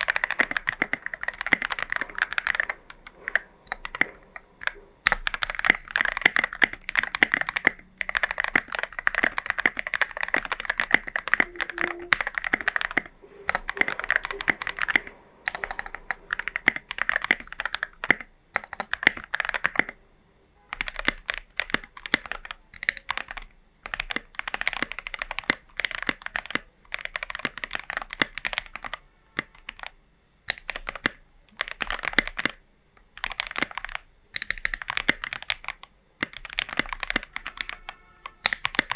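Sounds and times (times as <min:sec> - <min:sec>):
mechanical keyboard typing: 0:00.0 - 0:20.0, 0:20.7 - 0:38.9.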